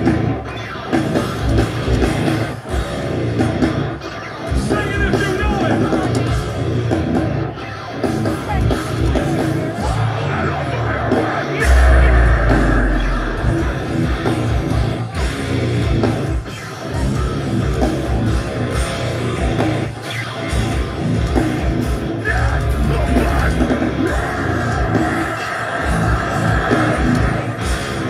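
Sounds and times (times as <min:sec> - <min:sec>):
bass guitar: 0:00.0 - 0:28.0
distorted guitars: 0:00.0 - 0:28.0.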